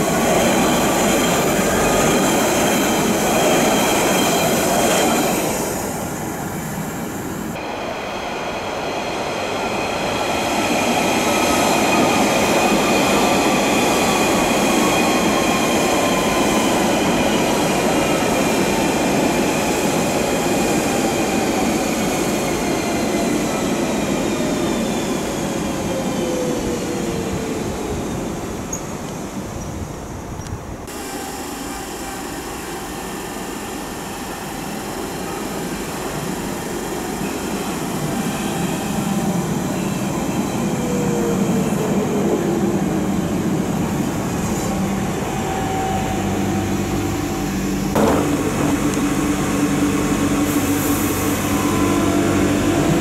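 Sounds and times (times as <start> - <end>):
train rushing past: 0.0 - 53.0.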